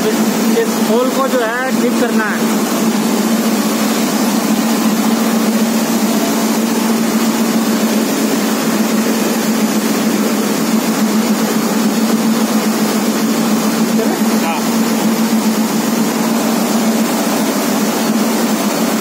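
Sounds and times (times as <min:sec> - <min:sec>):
hot air gun motor hum: 0:00.0 - 0:19.0.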